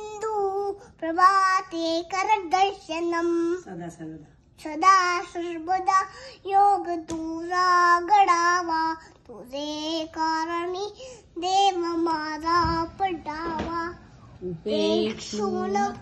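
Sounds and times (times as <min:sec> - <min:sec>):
toddler girl singing: 0:00.0 - 0:03.6, 0:04.6 - 0:14.1, 0:14.7 - 0:16.0.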